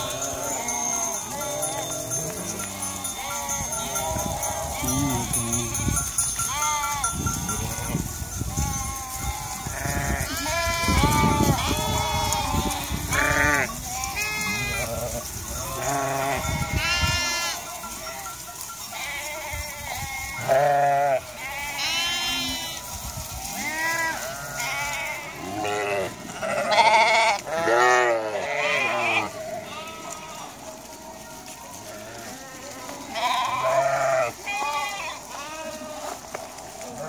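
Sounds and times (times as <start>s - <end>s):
sheep bleating: 0.0s - 30.9s, 31.8s - 37.0s.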